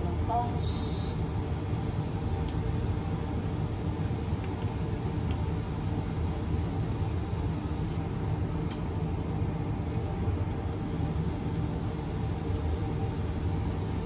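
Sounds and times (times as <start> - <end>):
appliance fan whirring: 0.0 - 14.0.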